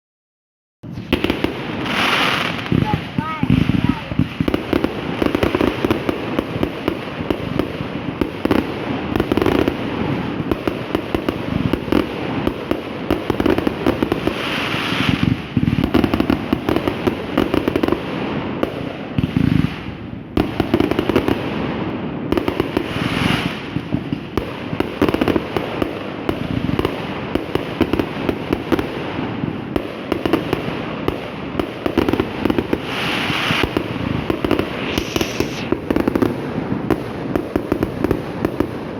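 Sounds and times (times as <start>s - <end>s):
fireworks bangs and crackles: 0.8s - 38.9s.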